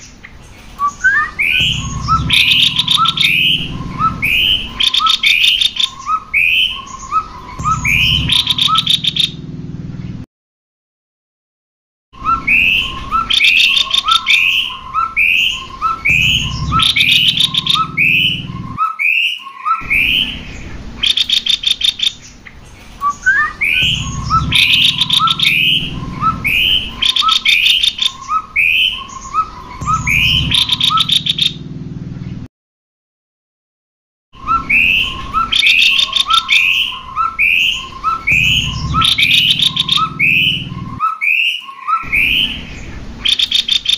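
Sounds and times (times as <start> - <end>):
bird chattering trills: 0.1 - 9.4, 12.2 - 31.6, 34.4 - 43.9
bird whistling swooping notes: 0.7 - 9.4, 12.2 - 31.6, 34.4 - 43.9.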